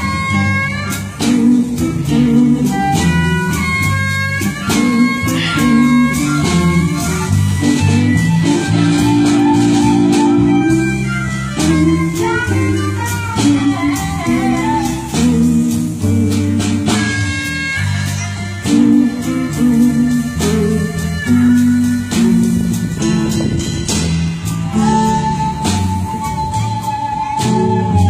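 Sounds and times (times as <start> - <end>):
bass line: 0.0 - 28.0
blues guitar: 0.0 - 28.0.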